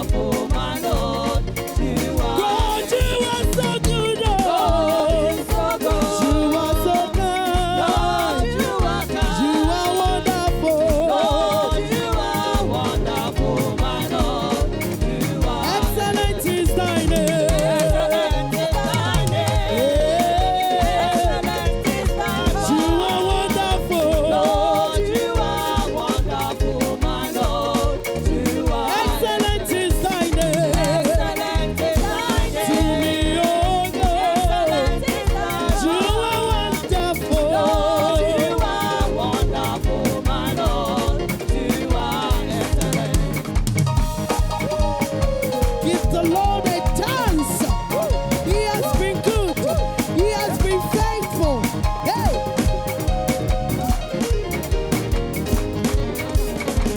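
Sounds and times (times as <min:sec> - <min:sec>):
band playing dance beat: 0:00.0 - 0:56.9.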